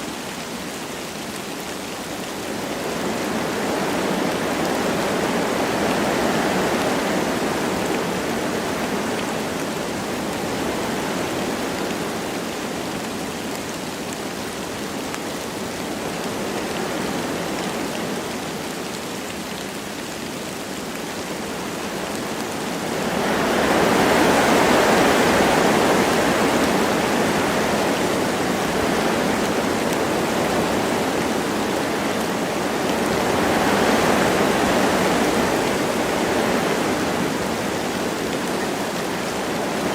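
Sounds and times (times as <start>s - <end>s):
light rain: 0.0s - 39.9s
wind through forest trees: 0.0s - 39.9s.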